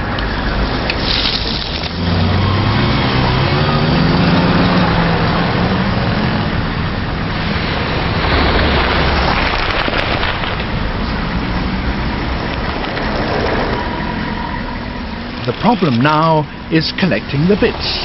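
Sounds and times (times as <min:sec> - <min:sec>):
tyre noise of passing cars: 0:00.0 - 0:18.0
vehicle engine running: 0:00.0 - 0:18.0.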